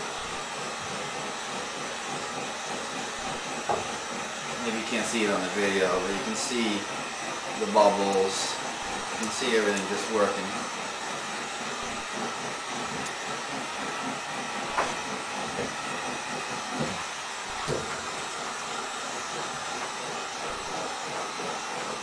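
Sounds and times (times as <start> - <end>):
heat gun blowing: 0.0 - 22.0.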